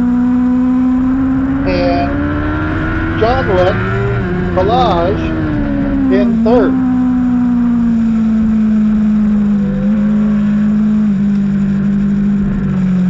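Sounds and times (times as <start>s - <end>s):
racing motorcycle engine revving: 0.0s - 13.0s.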